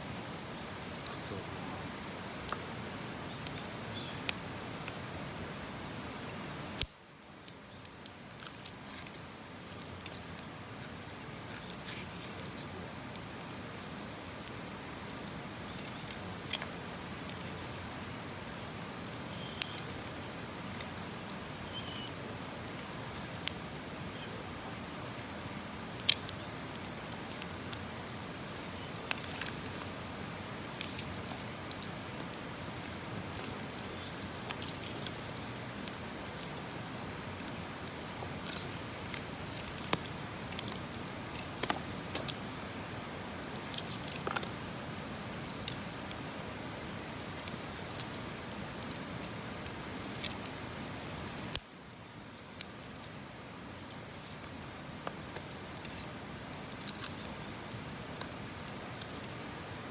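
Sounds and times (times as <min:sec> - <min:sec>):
campfire crackling and popping: 0:00.0 - 0:59.9
steady hiss: 0:00.0 - 0:59.9.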